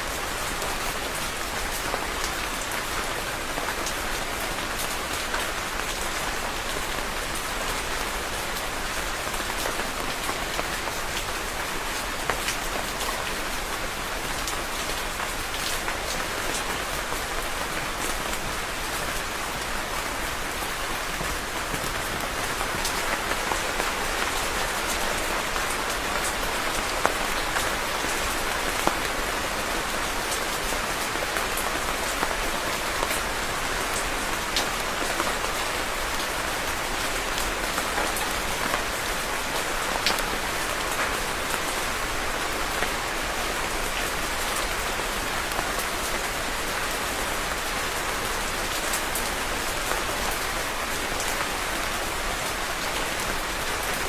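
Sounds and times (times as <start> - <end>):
rain pattering on a surface: 0.0 - 54.0.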